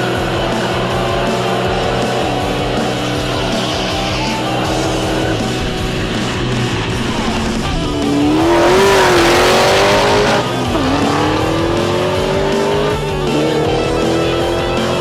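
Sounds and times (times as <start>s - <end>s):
car engine accelerating hard: 0.0s - 15.0s
rock music with guitar: 0.0s - 15.0s.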